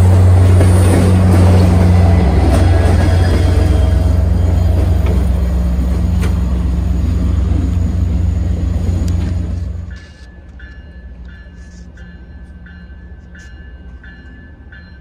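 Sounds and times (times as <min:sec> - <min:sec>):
diesel locomotive drone: 0:00.0 - 0:15.0.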